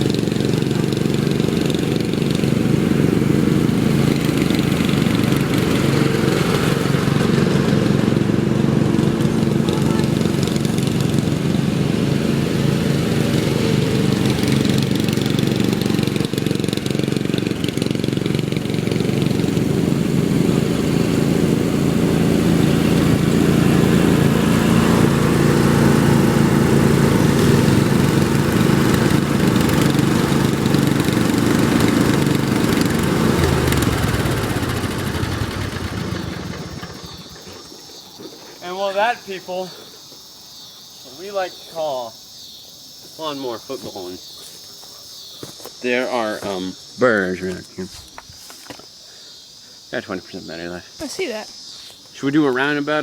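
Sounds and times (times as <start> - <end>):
riding lawn mower engine: 0.0 - 42.2, 43.0 - 49.3, 51.8 - 53.0.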